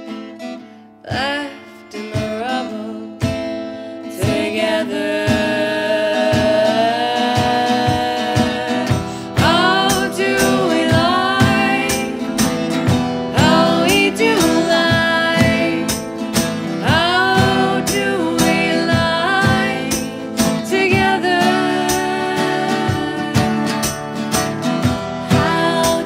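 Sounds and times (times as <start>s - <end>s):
strummed acoustic guitars: 0.0s - 26.0s
two women singing: 1.1s - 26.0s.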